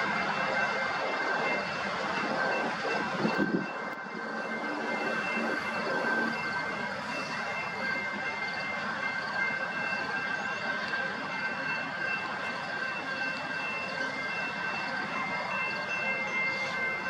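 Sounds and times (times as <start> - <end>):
train cars rumbling on rails: 0.0 - 17.0.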